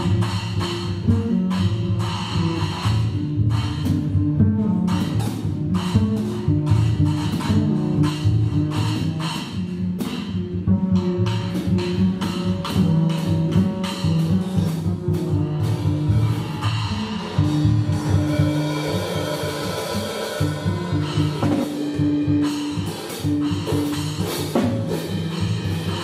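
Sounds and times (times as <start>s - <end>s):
double bass: 0.0s - 26.0s
drumsticks on cymbals and drums: 0.0s - 26.0s.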